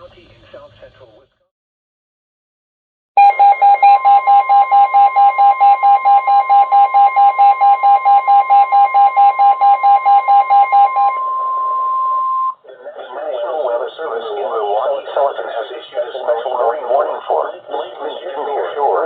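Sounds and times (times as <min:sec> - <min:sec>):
loud steady warning tone: 0:03.2 - 0:19.0.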